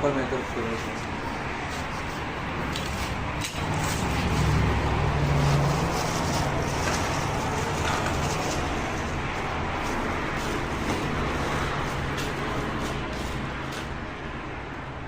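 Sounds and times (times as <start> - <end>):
vehicle engine running: 1.1 - 14.2.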